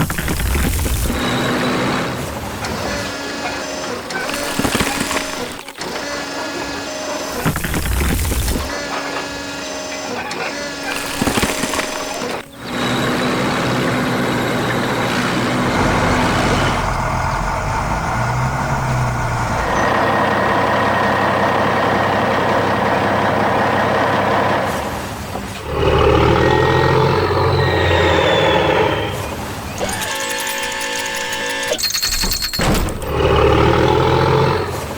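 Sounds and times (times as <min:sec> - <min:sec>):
heavy truck engine running: 0:00.0 - 0:34.9.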